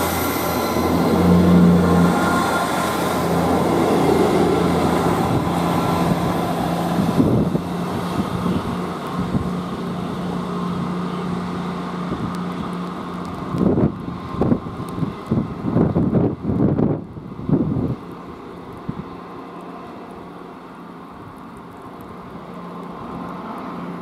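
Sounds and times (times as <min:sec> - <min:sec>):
wind buffeting microphone: 0:00.0 - 0:19.3
diesel train engine hum: 0:00.0 - 0:24.0
rail noise: 0:00.0 - 0:24.0.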